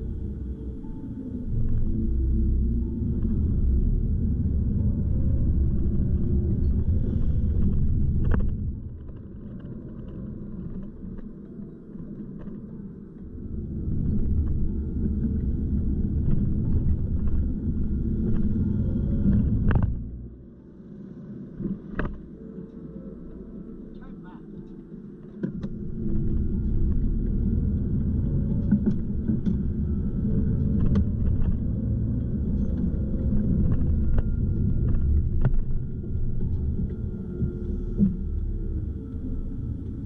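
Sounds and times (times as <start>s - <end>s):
car engine and tyre rumble: 0.0s - 24.0s, 24.7s - 40.0s.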